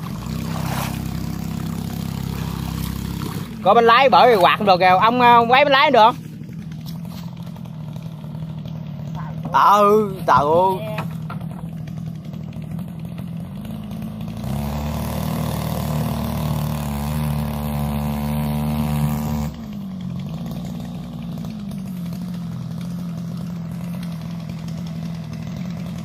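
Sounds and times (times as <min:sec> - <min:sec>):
two-stroke boat motor running: 0:00.0 - 0:26.0.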